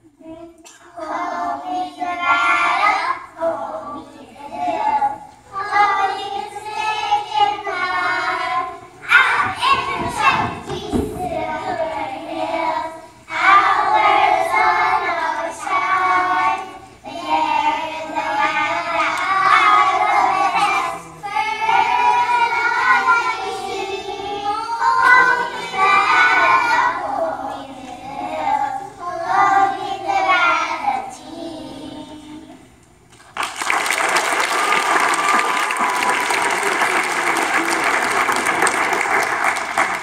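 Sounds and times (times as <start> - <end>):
children singing together: 0.0 - 32.8.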